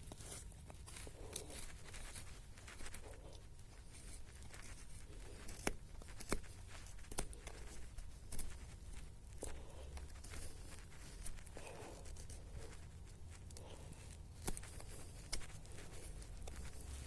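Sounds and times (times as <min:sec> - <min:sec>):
hands rustling dry sticks: 0:00.0 - 0:17.0.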